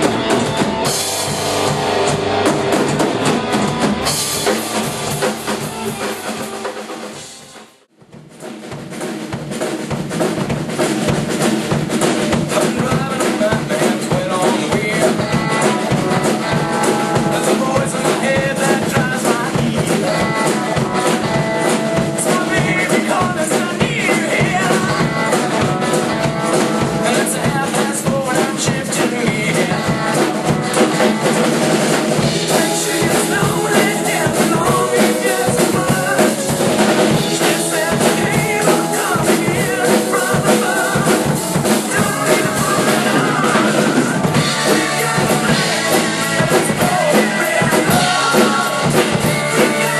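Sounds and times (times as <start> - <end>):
drum kit beat: 0.0 - 49.9
music: 0.0 - 49.9.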